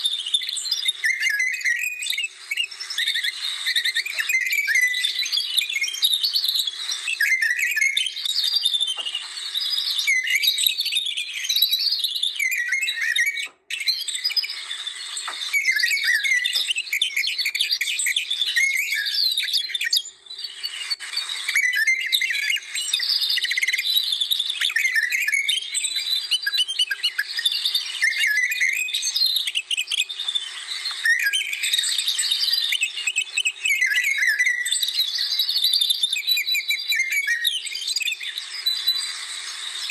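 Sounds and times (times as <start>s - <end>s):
birds chirping and whistling: 0.0s - 39.9s.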